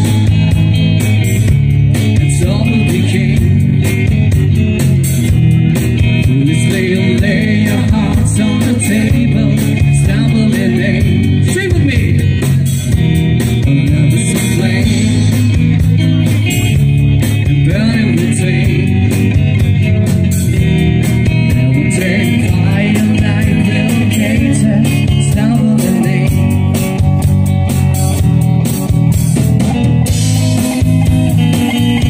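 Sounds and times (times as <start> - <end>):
bass guitar: 0.0 - 32.0
drum kit and cymbals: 0.0 - 32.0
electric guitars: 0.0 - 32.0.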